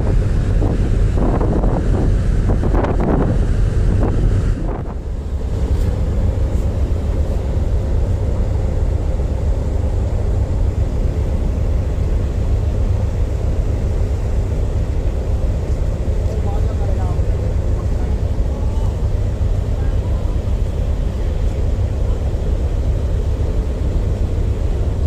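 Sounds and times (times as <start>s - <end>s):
ship diesel engines rumbling: 0.0s - 25.0s
wind buffeting microphone: 0.0s - 25.0s.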